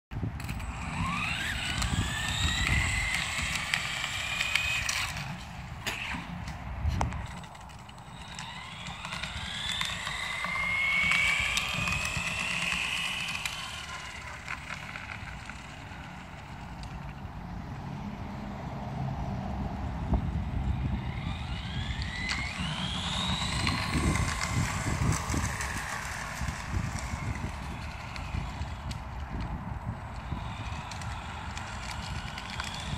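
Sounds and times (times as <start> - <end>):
low road rumble: 0.1 - 32.9
wheels rolling on asphalt: 0.1 - 32.9
toy car motor whine: 0.4 - 17.2, 20.7 - 32.9.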